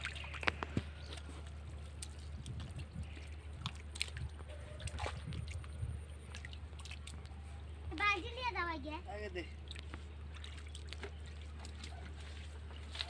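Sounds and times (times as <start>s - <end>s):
hands splashing in muddy water: 0.0s - 7.5s, 9.6s - 13.0s.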